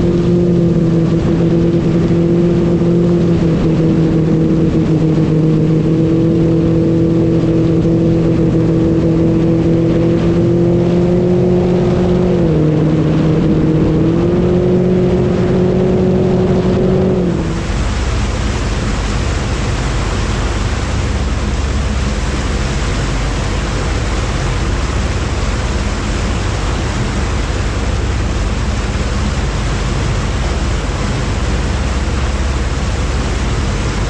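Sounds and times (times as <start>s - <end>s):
motor droning: 0.0s - 34.0s
steady rushing noise: 0.0s - 34.0s.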